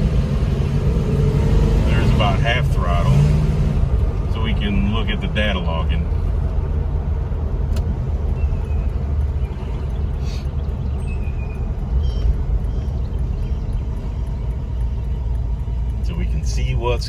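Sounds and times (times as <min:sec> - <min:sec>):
car engine rumble from inside cabin: 0:00.0 - 0:17.0.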